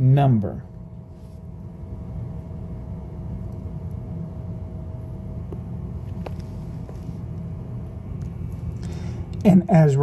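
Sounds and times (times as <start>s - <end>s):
faint steady hum: 0.0s - 10.0s
low background rumble: 0.0s - 10.0s.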